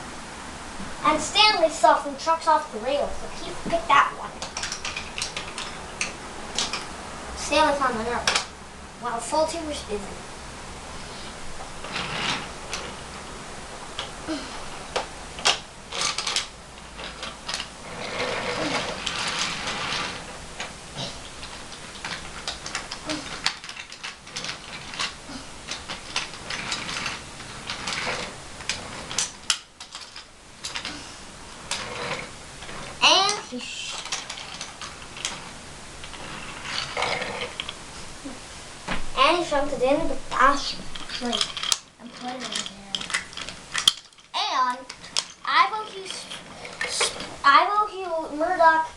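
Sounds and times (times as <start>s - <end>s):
wooden toy trains clattering: 1.1s - 8.5s, 11.2s - 13.2s, 13.9s - 37.8s, 38.9s - 48.9s.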